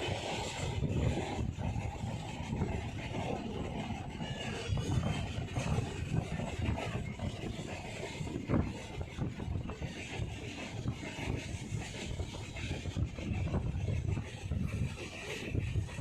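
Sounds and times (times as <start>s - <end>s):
train clatter and knocks: 0.0s - 16.0s
train wheels rumbling on rails: 0.0s - 16.0s.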